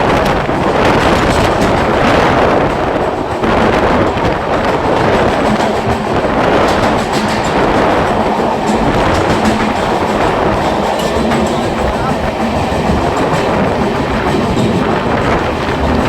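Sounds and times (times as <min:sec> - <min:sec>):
train rumbling through tunnel: 0:00.0 - 0:16.0.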